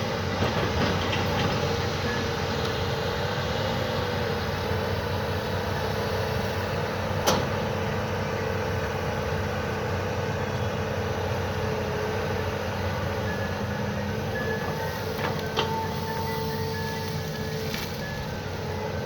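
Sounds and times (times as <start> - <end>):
mini excavator running: 0.0 - 19.0.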